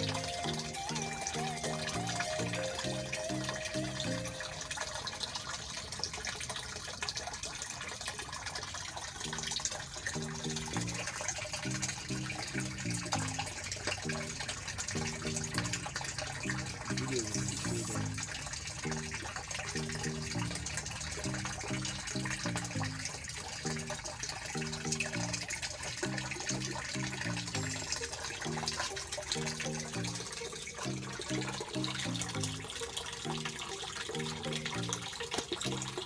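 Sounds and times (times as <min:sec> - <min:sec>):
low repeating background music: 0:00.0 - 0:05.0, 0:09.1 - 0:36.0
water running and splashing: 0:00.0 - 0:36.0.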